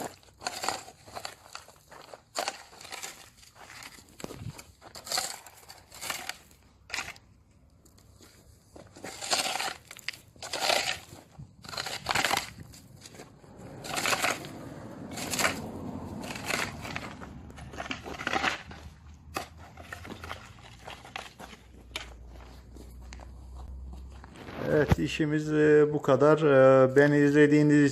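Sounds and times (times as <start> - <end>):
shovel scraping soil and gravel: 0.0 - 7.3, 7.9 - 22.6, 24.2 - 25.1.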